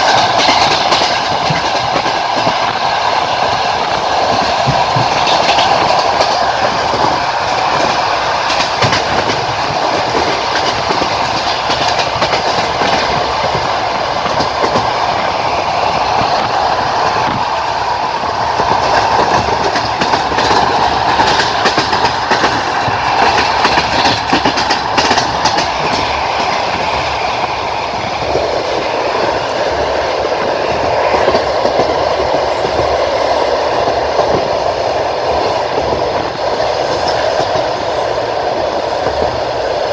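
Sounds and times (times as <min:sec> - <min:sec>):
train wheels rumbling: 0:00.0 - 0:39.9
wheels clacking on rail joints: 0:00.0 - 0:39.9.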